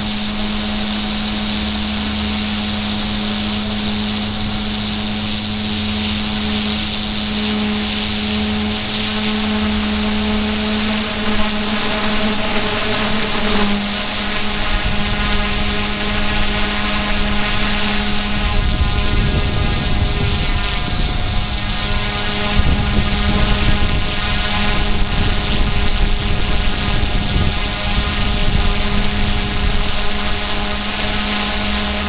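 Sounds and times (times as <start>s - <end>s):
rc helicopter motor whine: 0.0s - 32.0s.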